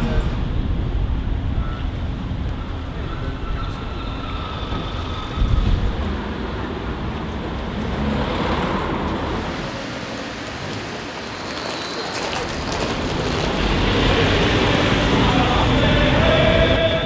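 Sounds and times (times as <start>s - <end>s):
tyres passing: 2.8s - 17.0s.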